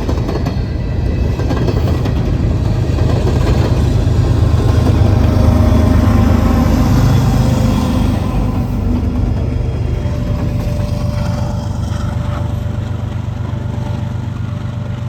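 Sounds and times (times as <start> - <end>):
freight locomotive engines running: 0.0 - 15.0.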